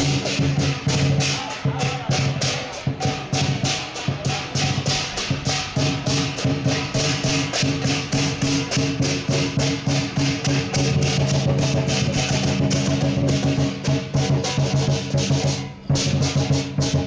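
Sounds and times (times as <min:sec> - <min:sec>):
music with quick steady beat: 0:00.0 - 0:17.0.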